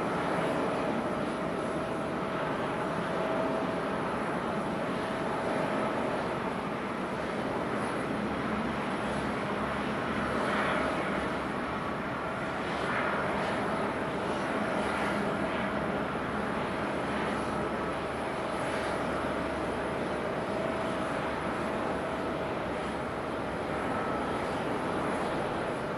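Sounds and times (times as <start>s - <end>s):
faint constant hum: 0.0s - 25.9s.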